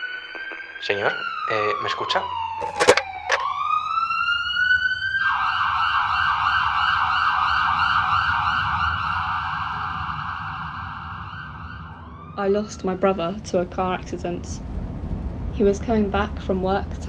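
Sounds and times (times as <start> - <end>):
emergency vehicle siren: 0.0 - 17.0.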